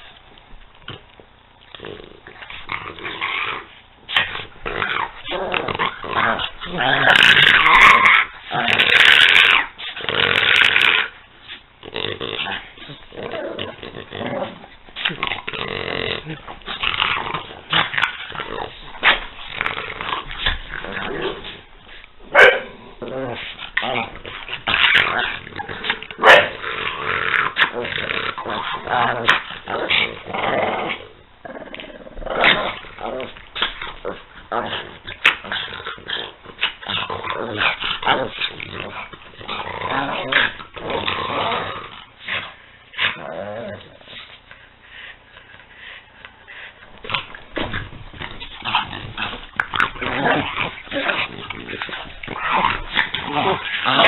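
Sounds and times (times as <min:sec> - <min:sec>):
dogs growling while play-fighting: 0:00.8 - 0:54.0.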